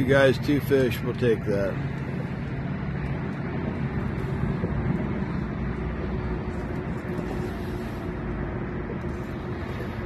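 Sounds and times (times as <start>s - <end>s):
water noise: 0.0s - 10.0s
wind: 0.0s - 10.0s.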